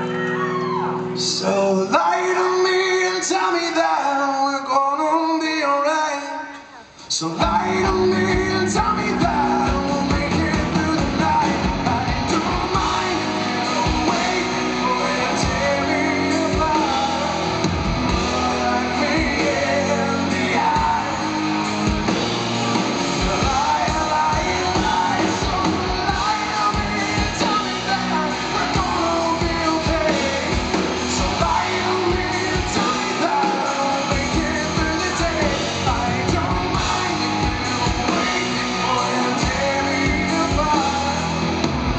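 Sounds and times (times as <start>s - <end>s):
loud live rock band: 0.0s - 41.9s.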